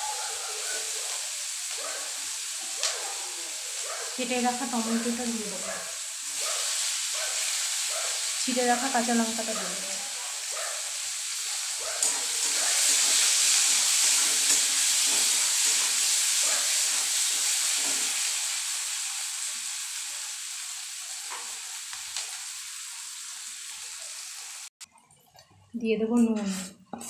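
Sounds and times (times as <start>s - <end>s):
vegetables sizzling in hot oil: 0.0s - 24.7s.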